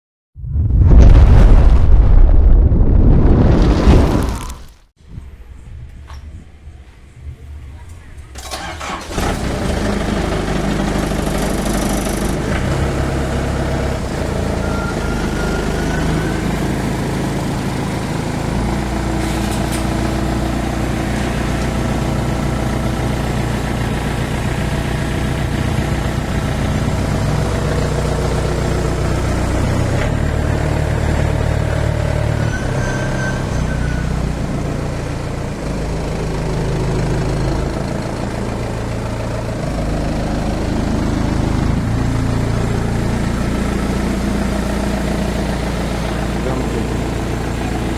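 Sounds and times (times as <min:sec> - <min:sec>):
combine harvester engine humming: 0:05.3 - 0:47.9.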